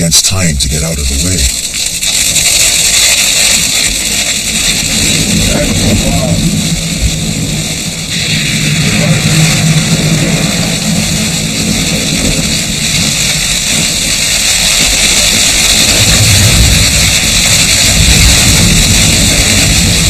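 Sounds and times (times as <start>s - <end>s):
steady loud hiss: 0.0s - 20.0s.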